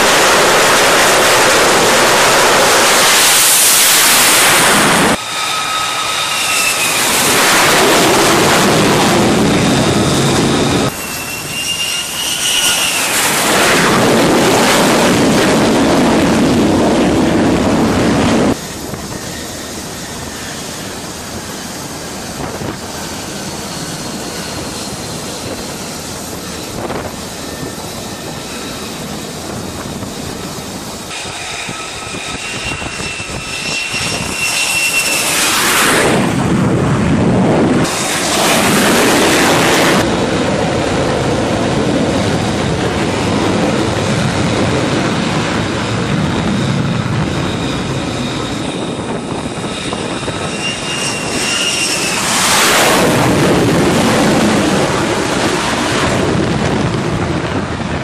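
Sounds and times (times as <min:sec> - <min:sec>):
jet engine with turbine whine: 0:00.0 - 0:58.0.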